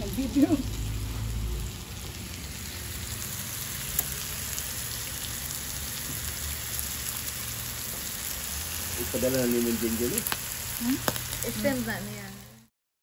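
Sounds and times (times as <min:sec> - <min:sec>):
meat sizzling on grill pan: 0:00.0 - 0:12.7.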